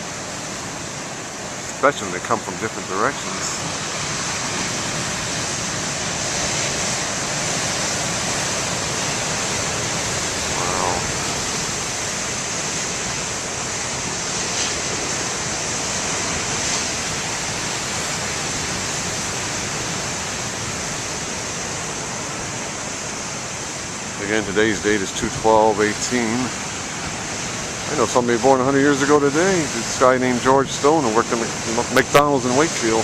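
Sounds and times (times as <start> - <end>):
ocean waves breaking: 0.0 - 33.0.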